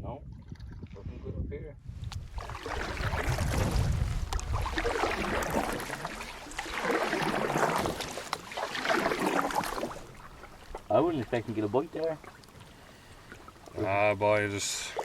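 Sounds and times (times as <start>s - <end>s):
paddle strokes splashing in water: 2.2s - 15.0s.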